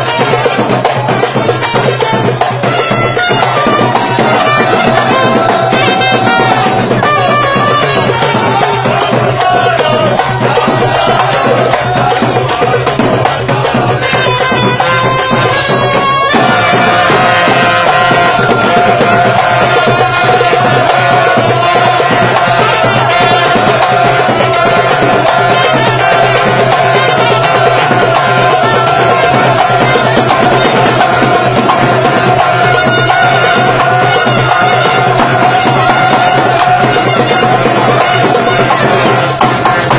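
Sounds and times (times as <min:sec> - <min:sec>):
drum: 0:00.0 - 0:39.9.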